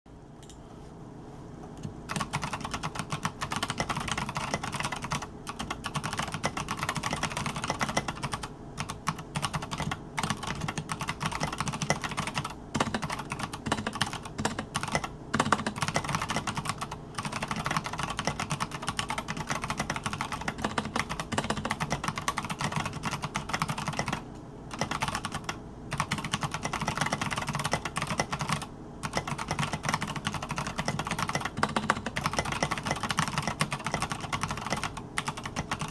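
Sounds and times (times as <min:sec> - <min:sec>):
mechanical keyboard typing: 0:02.1 - 0:35.9.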